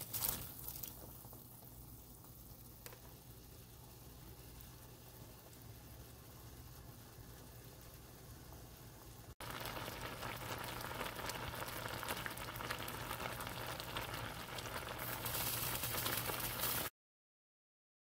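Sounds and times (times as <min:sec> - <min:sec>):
pot boiling and bubbling: 0:00.0 - 0:16.9.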